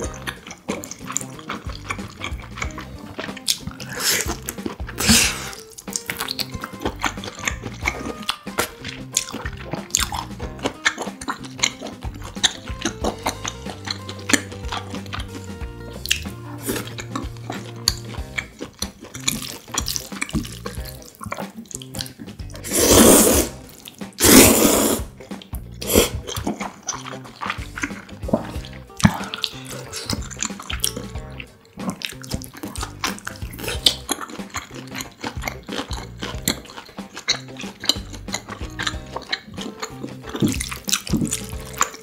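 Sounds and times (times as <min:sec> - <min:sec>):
slurping noodles: 0:00.0 - 0:42.0
wet chewing and mouth smacks: 0:00.0 - 0:42.0.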